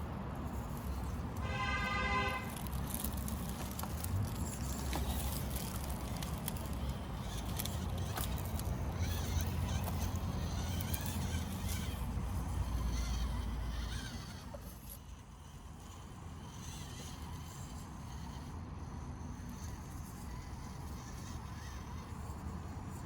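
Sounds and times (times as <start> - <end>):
rc car tyres ticking and clicking: 0.0 - 23.0.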